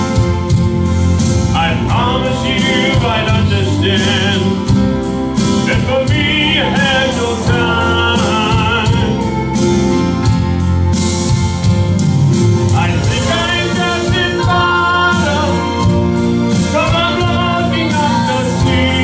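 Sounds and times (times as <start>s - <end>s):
gospel instrumental backing with beat: 0.0s - 19.0s
person singing with vibrato: 1.4s - 10.6s, 12.7s - 19.0s.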